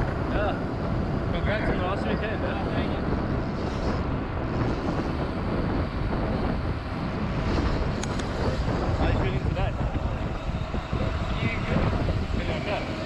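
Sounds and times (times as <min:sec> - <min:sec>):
tyres rumbling on rough trail: 0:00.0 - 0:13.0
wind buffeting microphone: 0:00.0 - 0:13.0.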